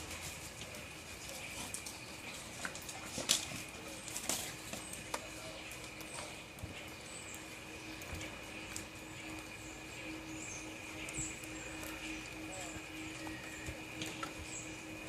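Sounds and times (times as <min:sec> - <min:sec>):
faint rain: 0:00.0 - 0:15.0.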